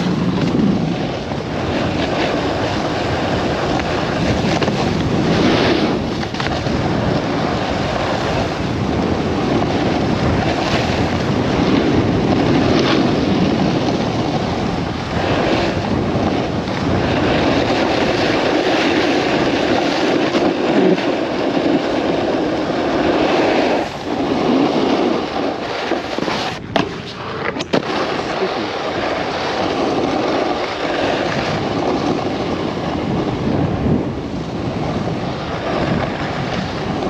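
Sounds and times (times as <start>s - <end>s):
snowboard scraping over snow: 0.0s - 37.0s
wind rushing over microphone: 0.0s - 37.0s.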